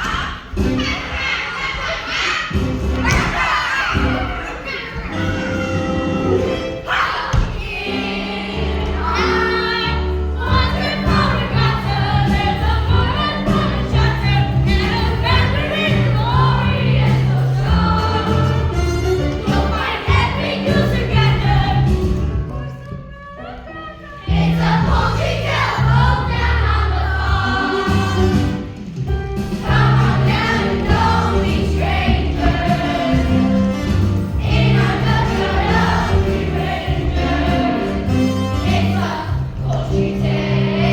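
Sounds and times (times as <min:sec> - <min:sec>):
group of voices singing: 0:00.0 - 0:22.2, 0:23.5 - 0:28.7, 0:29.6 - 0:40.9
instrumental backing music: 0:04.0 - 0:40.9.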